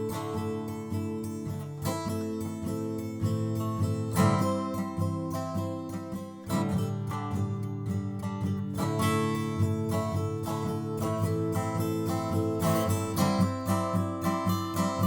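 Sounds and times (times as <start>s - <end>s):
acoustic guitar strummed and picked: 0.0s - 15.0s.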